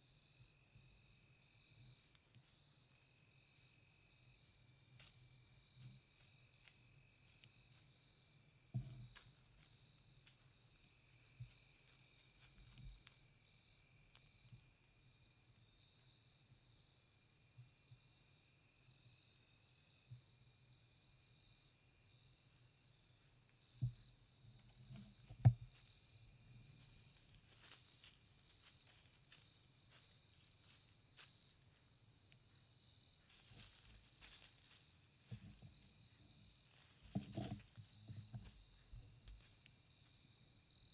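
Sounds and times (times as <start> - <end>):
insects trilling: 1.1 - 17.2, 20.9 - 40.9.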